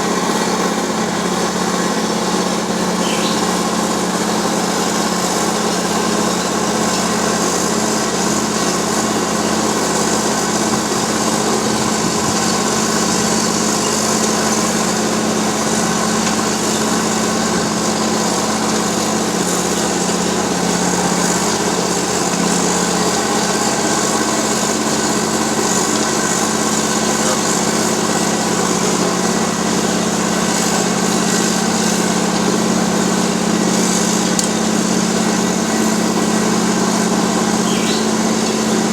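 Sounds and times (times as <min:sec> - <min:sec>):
milling machine grinding asphalt: 0:00.0 - 0:38.9.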